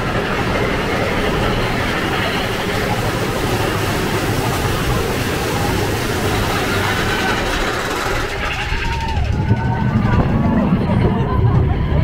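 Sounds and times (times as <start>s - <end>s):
roller coaster rumble and clatter: 0.0s - 12.0s.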